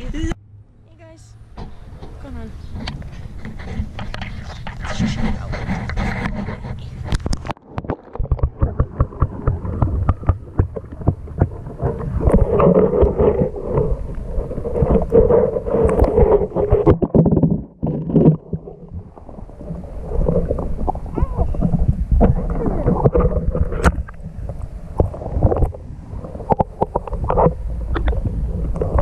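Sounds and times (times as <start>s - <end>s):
muffled water sloshing: 0.0s - 29.0s.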